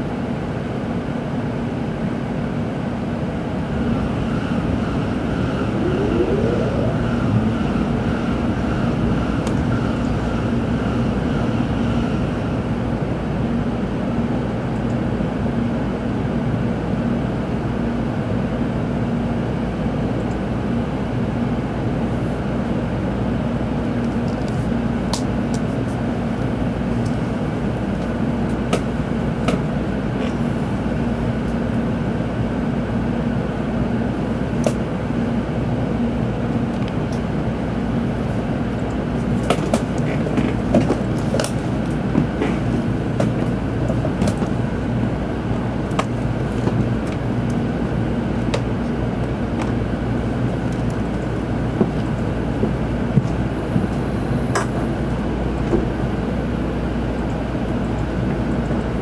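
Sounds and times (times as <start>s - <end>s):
train car rumble and hum: 0.0s - 59.0s.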